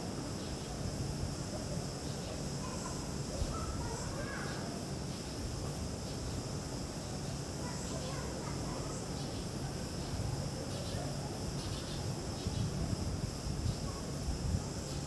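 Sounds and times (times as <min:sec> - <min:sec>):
constant high hiss: 0:00.0 - 0:15.0.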